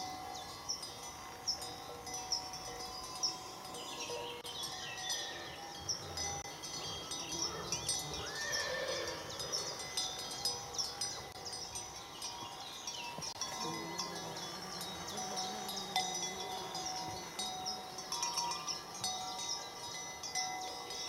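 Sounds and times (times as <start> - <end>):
horse bells clanking and ringing: 0.0 - 21.0.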